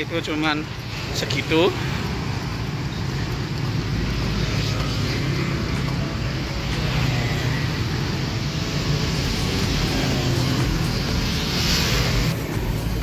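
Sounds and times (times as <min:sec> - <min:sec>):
motorcycle and scooter engines: 0:00.0 - 0:13.0
tyre and road noise: 0:00.0 - 0:13.0.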